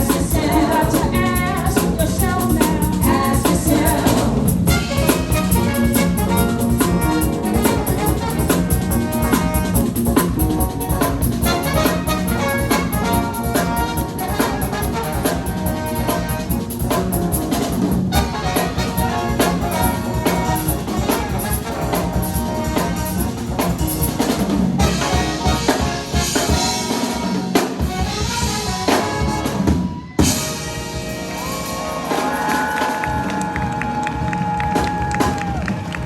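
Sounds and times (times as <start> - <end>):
live band with horns and drums: 0.0 - 36.0.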